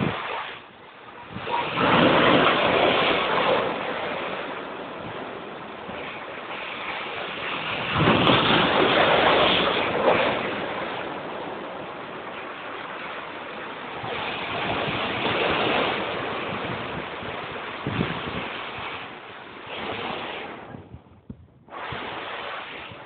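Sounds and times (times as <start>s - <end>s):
waves crashing against seawall: 0.0s - 23.0s.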